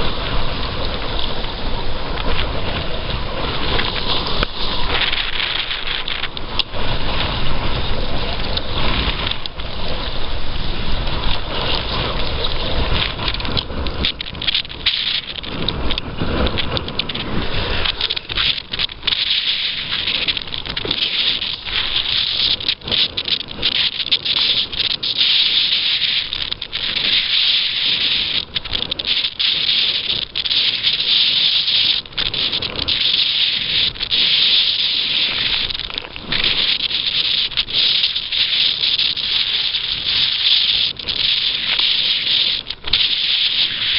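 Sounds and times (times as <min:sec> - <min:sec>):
wind and water rushing: 0:00.0 - 0:43.9
wind buffeting microphone: 0:00.0 - 0:43.9.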